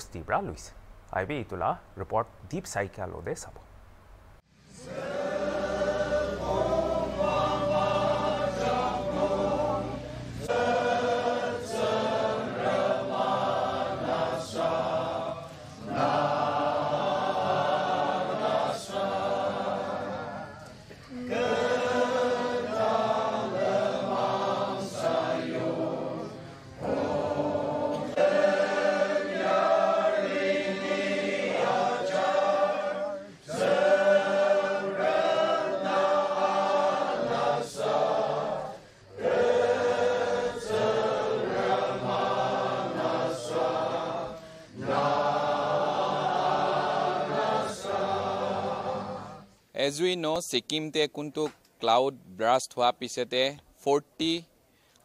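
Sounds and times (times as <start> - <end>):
congregation singing a hymn: 4.6 - 49.7.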